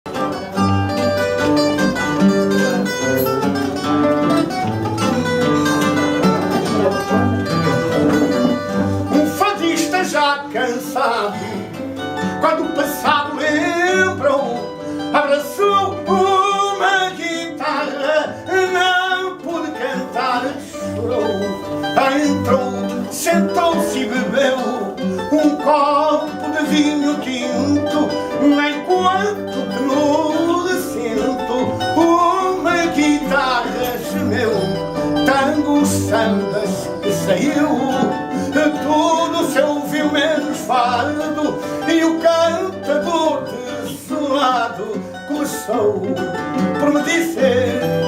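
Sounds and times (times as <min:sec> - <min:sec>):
classical guitar chords: 0:00.0 - 0:48.0
plucked guitar melody: 0:00.0 - 0:48.0.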